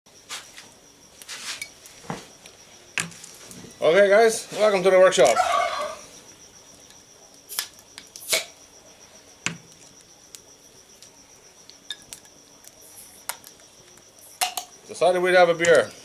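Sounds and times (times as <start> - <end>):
high-pitched insect trill: 0.1 - 16.0.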